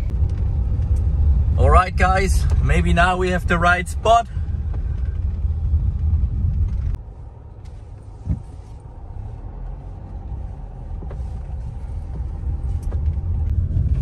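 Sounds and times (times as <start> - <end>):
car rumbling on road: 0.0 - 14.0.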